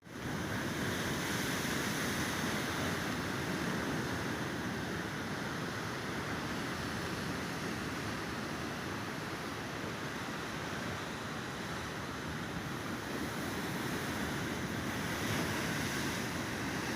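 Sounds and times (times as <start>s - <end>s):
sea surf washing: 0.1s - 16.9s.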